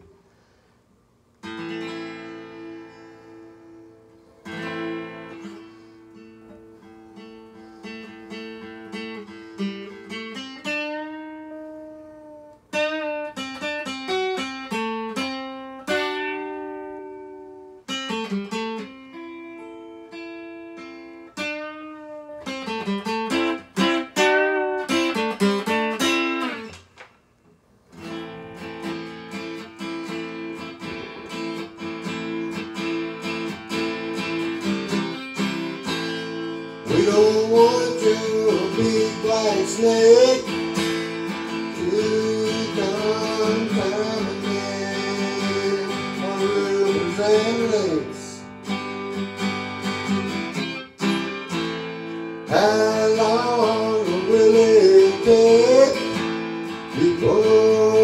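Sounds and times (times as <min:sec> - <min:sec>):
acoustic guitar playing: 0:00.0 - 0:58.0.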